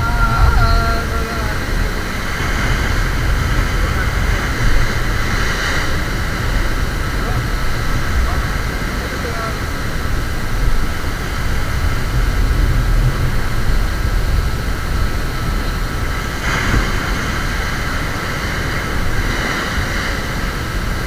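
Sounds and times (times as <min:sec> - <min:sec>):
ocean surf rumble: 0:00.0 - 0:21.0
wave breaking and washing in: 0:00.0 - 0:21.0
wind on microphone: 0:00.0 - 0:21.0.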